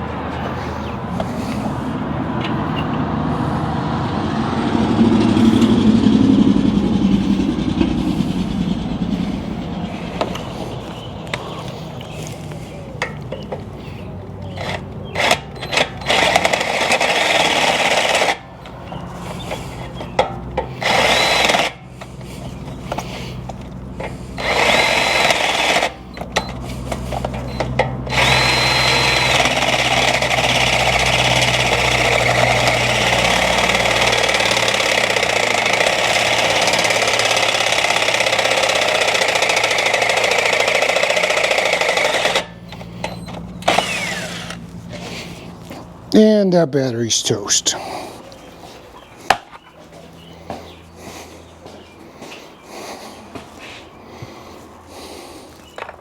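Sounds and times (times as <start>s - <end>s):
cordless power tool whining: 0.0s - 46.1s.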